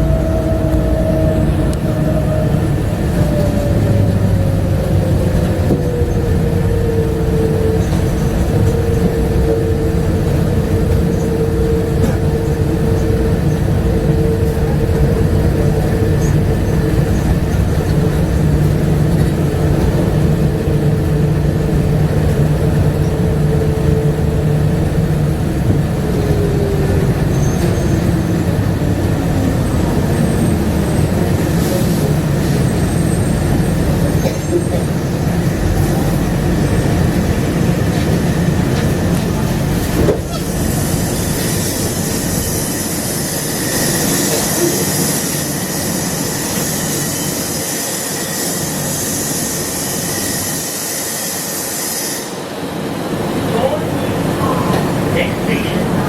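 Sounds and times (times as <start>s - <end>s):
train rumble with motor whine: 0.0s - 56.0s.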